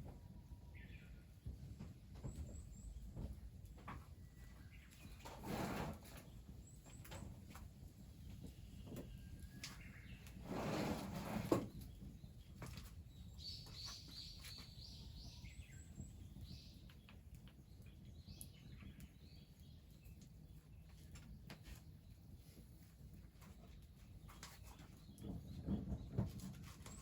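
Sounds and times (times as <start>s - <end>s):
small birds chirping: 2.2s - 10.6s, 11.4s - 27.0s.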